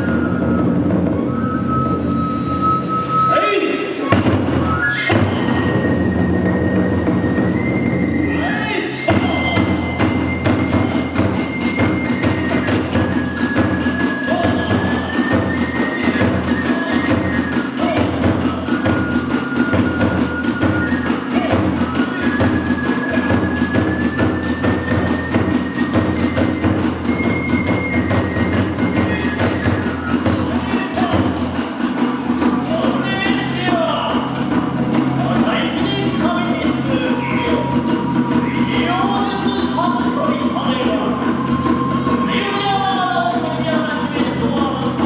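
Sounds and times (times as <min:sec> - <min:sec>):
bamboo flute long high notes: 0:00.0 - 0:45.0
fast drum strokes: 0:03.9 - 0:45.0.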